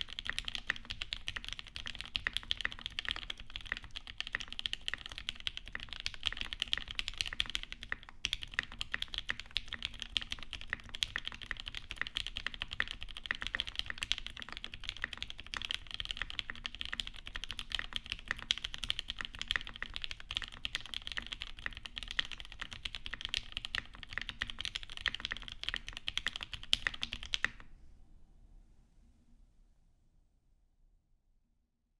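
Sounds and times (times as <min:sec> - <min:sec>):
fast typing on mechanical keyboard: 0:00.0 - 0:27.6.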